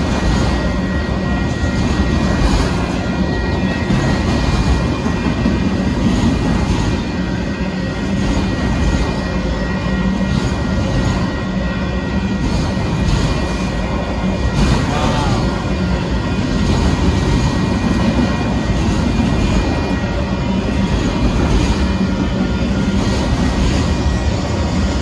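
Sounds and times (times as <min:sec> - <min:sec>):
freight train wheels on rails: 0:00.0 - 0:25.0.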